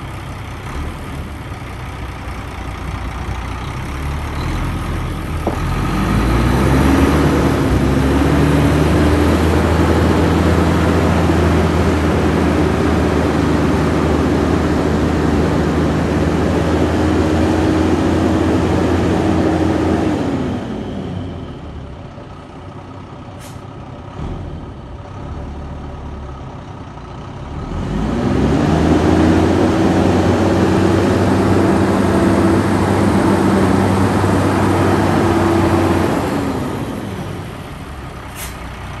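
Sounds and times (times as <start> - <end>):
diesel truck engine: 0.0 - 39.0.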